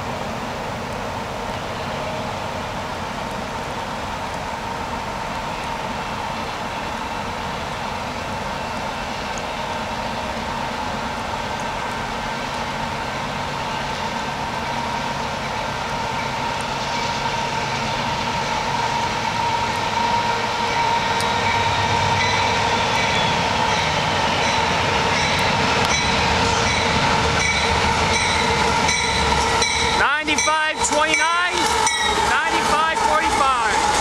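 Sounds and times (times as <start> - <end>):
freight train rumble: 0.0 - 34.0.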